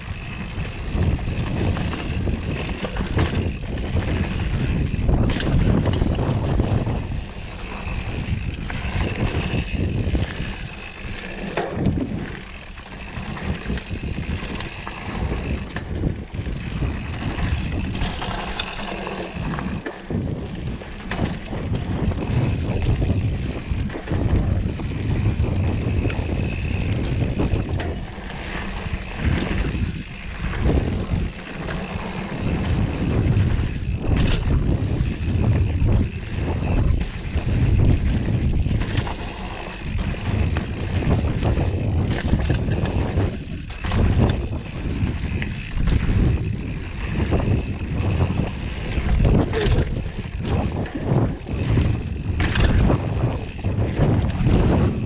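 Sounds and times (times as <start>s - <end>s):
bike knocks and rattles: 0.0s - 55.0s
wind rushing over microphone: 0.0s - 55.0s.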